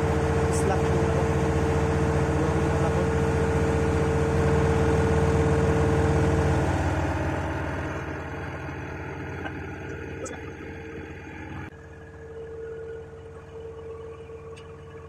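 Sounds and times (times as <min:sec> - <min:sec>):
engine-room machinery hum: 0:00.0 - 0:15.0
machinery whine: 0:00.0 - 0:15.0.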